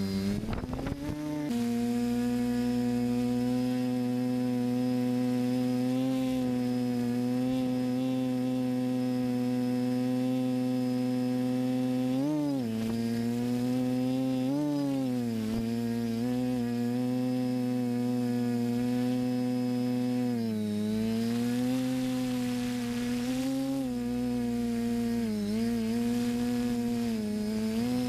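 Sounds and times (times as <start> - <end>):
drone motors buzzing: 0.0 - 28.0.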